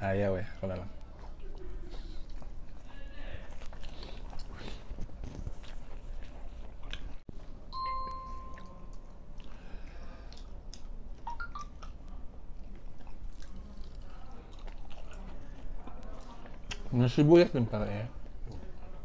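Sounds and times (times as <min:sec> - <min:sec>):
close-up chewing with mouth clicks: 0:00.6 - 0:07.3, 0:08.1 - 0:17.1.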